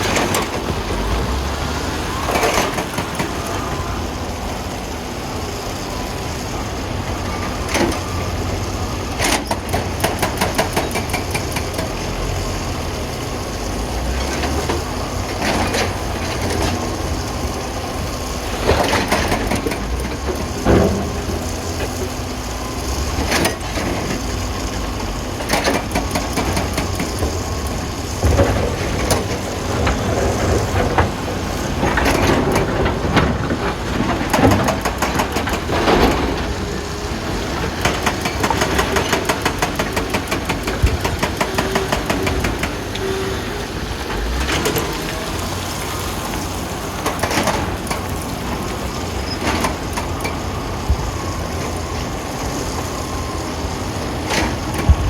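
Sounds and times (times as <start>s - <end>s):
wheel loader diesel engine: 0.0s - 55.0s.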